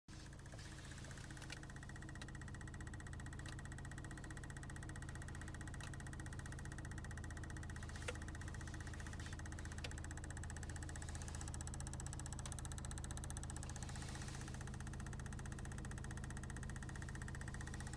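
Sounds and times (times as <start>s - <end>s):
car engine idling: 0.1s - 17.9s
fast regular engine knocking: 0.1s - 17.9s.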